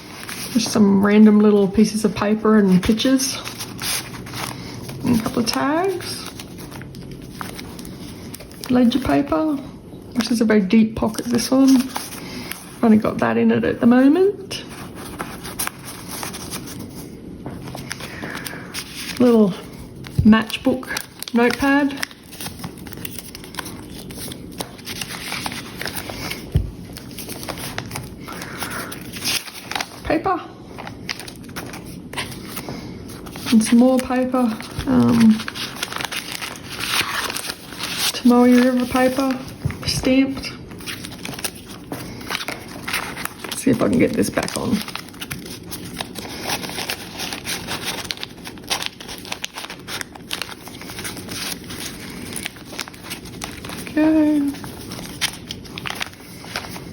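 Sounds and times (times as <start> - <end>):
paper rustling: 0.0 - 9.6, 11.0 - 56.9.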